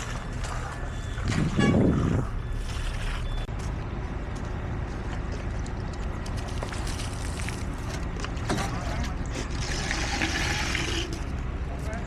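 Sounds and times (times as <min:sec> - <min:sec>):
construction machinery engine rumble: 0:00.0 - 0:12.0.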